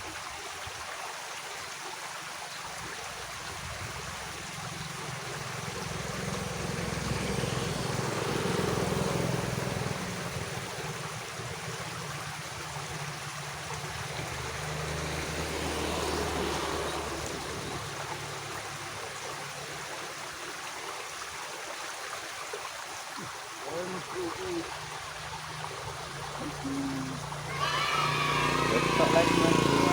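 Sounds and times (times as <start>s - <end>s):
water running in a ditch: 0.0s - 29.9s.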